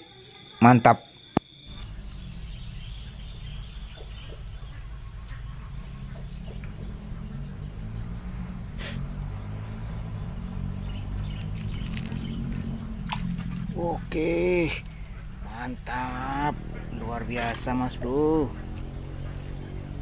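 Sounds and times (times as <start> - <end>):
insects chirring: 0.0 - 20.0
low steady rumble: 1.7 - 20.0.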